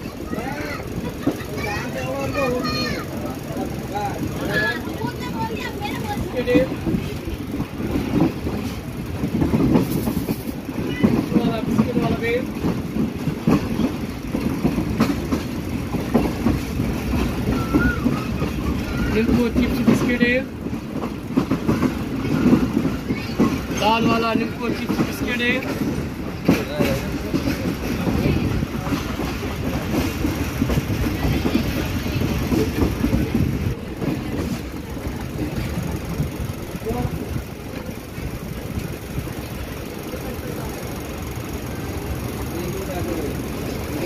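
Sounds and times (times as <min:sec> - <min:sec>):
train clatter: 0:00.0 - 0:44.0
train wheels rumbling on rails: 0:00.0 - 0:44.0
wheels clacking over rail joints: 0:00.0 - 0:44.0.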